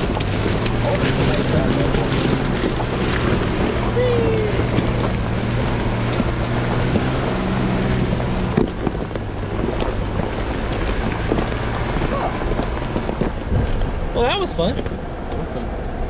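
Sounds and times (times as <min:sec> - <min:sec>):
car engine running at low speed: 0:00.0 - 0:16.0
wind buffeting microphone: 0:00.0 - 0:16.0.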